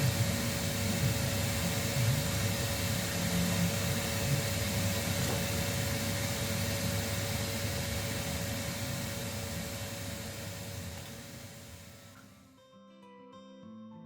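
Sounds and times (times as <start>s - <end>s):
mechanical hum and hiss: 0.0s - 12.5s.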